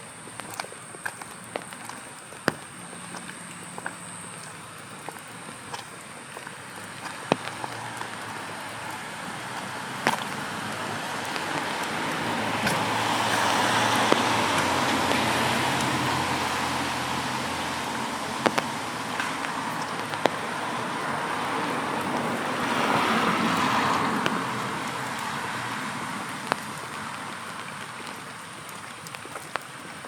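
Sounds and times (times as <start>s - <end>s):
car passing on wet road: 0.0s - 30.0s.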